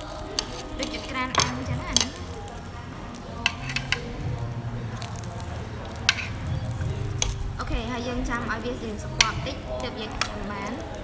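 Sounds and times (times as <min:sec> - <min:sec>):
metal tongs clicking on grill: 0:00.0 - 0:04.4, 0:05.0 - 0:07.5, 0:08.3 - 0:11.0.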